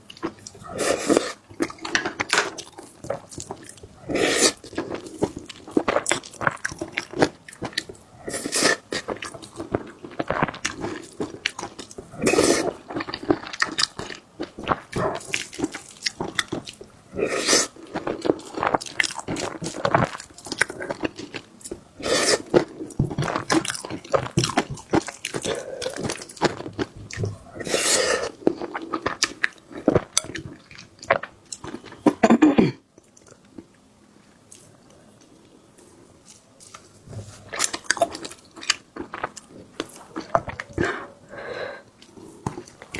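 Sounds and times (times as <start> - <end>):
chewing and crunching food: 0.0 - 32.2, 32.9 - 42.9.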